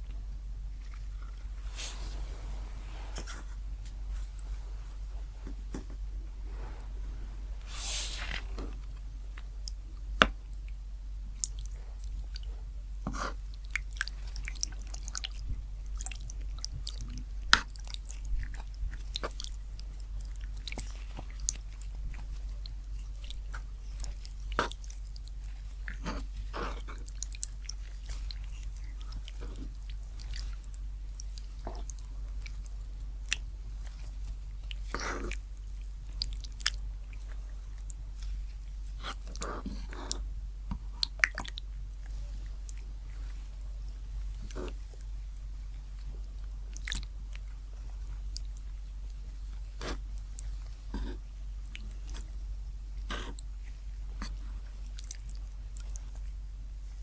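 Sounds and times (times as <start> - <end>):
low hum: 0.0 - 57.0
chewing and biting food: 10.6 - 52.4, 53.0 - 57.0.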